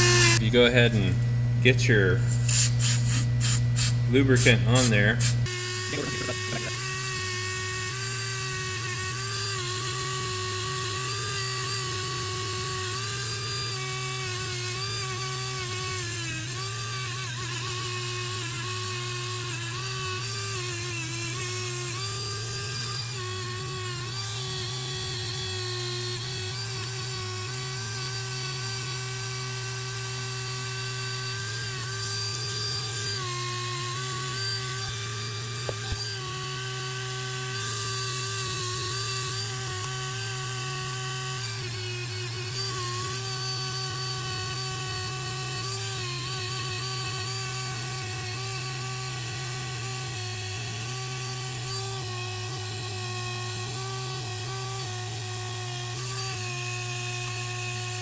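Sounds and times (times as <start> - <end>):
rotary tool wire wheel whining: 0.0 - 0.5, 2.2 - 58.0.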